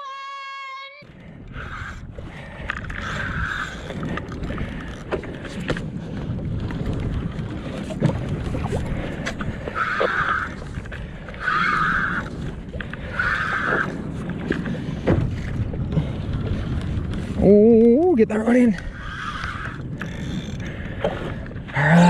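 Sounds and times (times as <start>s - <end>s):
water against kayak: 1.0s - 22.0s
wind rumble on microphone: 1.0s - 22.0s.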